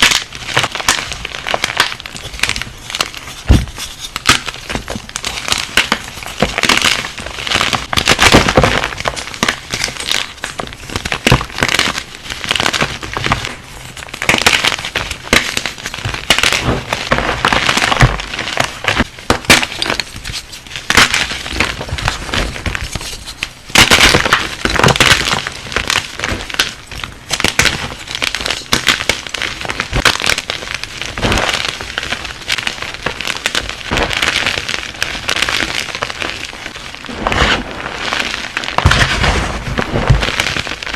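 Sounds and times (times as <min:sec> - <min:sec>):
brittle material crunching: 0:00.0 - 0:40.9.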